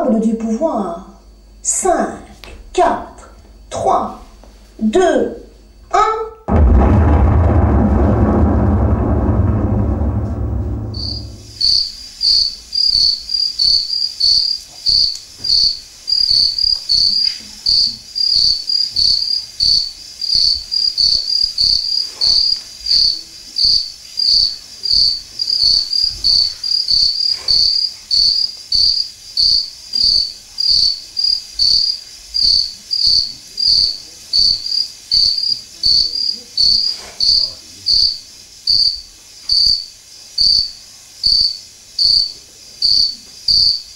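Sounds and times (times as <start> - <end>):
cricket chirping: 0.4 - 4.6, 6.8 - 43.9.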